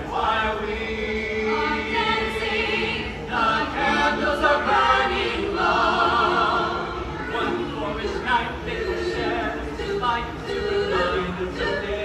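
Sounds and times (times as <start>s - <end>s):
choir singing a holiday song: 0.0s - 12.0s.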